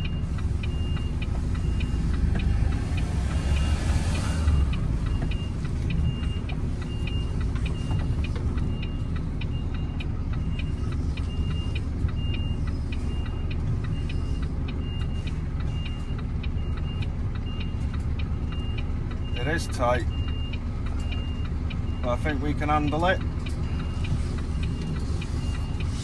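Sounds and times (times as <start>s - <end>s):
lorry diesel engine running: 0.0s - 26.0s
reversing alarm beeping: 0.0s - 26.0s.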